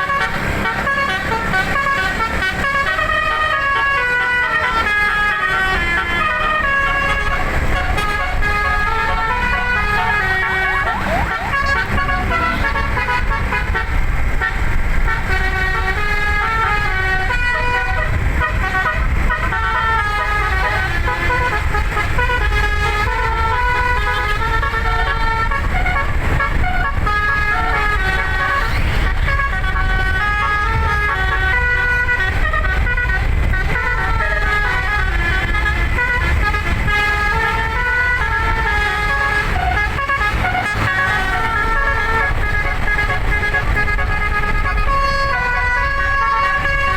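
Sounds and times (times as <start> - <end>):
musical air horn melody: 0.0 - 46.9.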